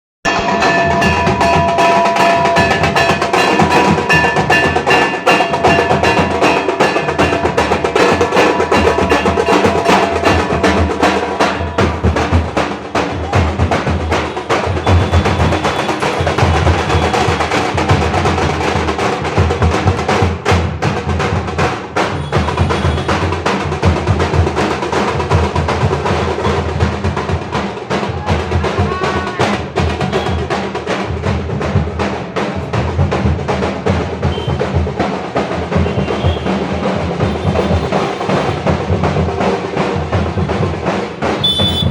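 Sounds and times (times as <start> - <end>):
fast loud drumming: 0.3 - 41.9.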